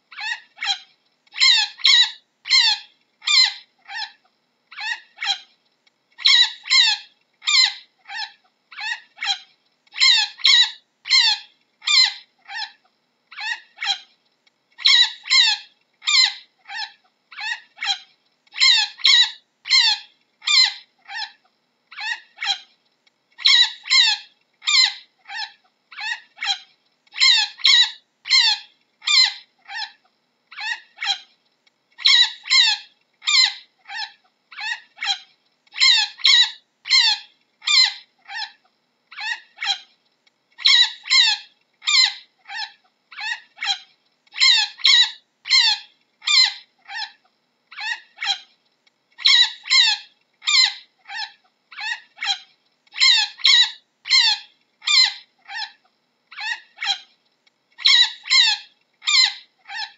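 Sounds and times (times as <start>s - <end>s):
chinchilla high-pitched calls: 0.1s - 5.5s, 6.2s - 14.1s, 14.8s - 22.7s, 23.4s - 31.3s, 32.0s - 39.9s, 40.6s - 48.5s, 49.2s - 57.1s, 57.8s - 59.9s.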